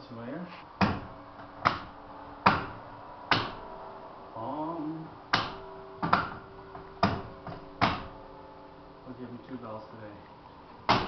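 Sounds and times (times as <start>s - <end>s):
church bells ringing: 1.1s - 10.9s.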